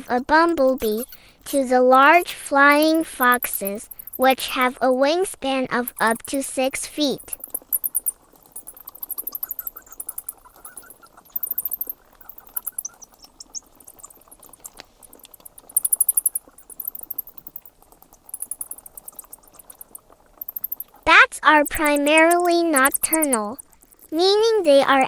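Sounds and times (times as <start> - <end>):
bats clicking and squeaking: 0.0 - 25.0
soft twittering chatter: 0.0 - 25.0.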